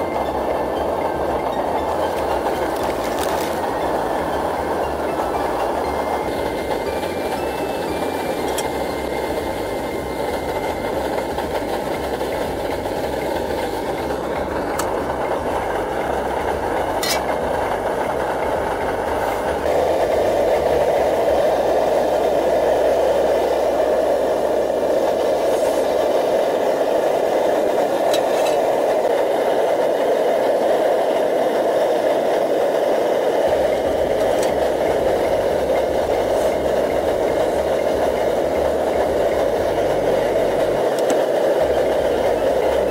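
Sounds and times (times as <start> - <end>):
camp stove burning: 0.0 - 42.9.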